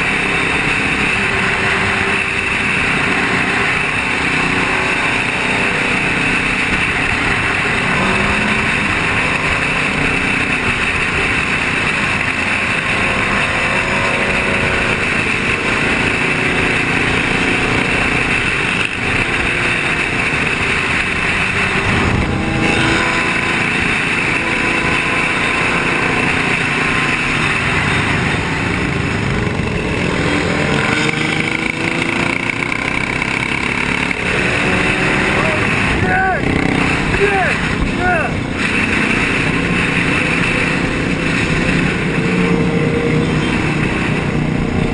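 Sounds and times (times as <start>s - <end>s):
motorcycle engines revving: 0.0s - 44.9s
rushing road noise: 0.0s - 44.9s.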